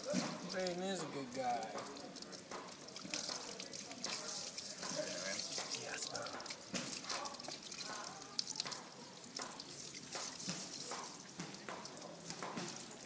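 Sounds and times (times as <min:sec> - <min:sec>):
hose water splashing on concrete: 0:00.0 - 0:13.0.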